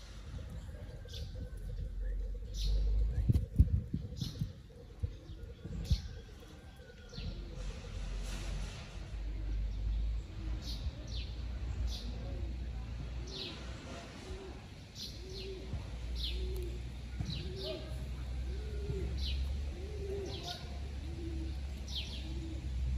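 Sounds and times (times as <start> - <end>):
dove cooing: 0.0 - 10.9, 12.1 - 22.9.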